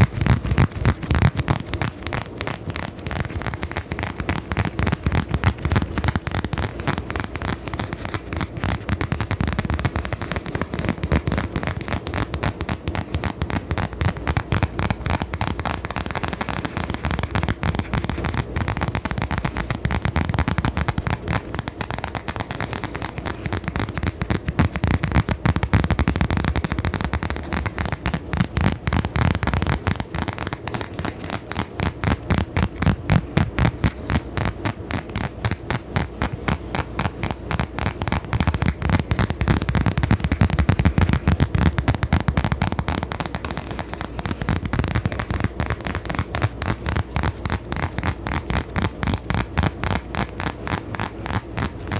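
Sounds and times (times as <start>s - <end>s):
crackling and scratching on microphone: 0.0s - 51.9s.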